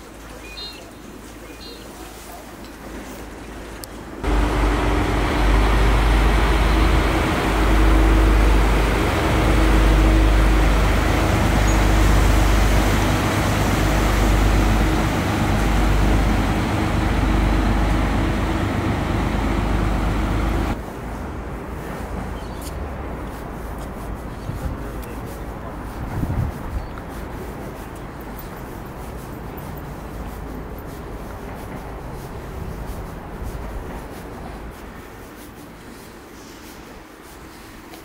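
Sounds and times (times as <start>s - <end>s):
ferry engines rumbling: 0.1s - 38.0s.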